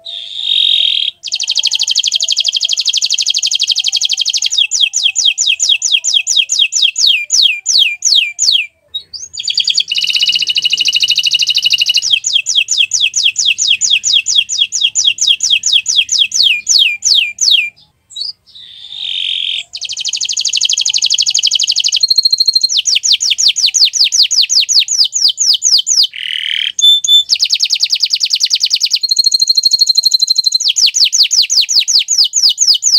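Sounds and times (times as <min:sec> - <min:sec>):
canary singing fast trills: 0:00.0 - 0:32.9.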